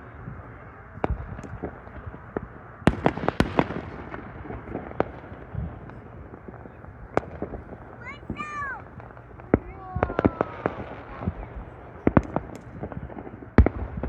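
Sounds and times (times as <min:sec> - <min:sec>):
fireworks bangs and pops: 0:01.0 - 0:14.0.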